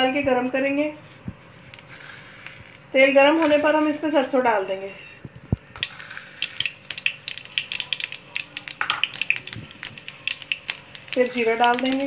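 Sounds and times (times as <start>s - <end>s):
seeds popping in hot oil: 1.6s - 12.0s.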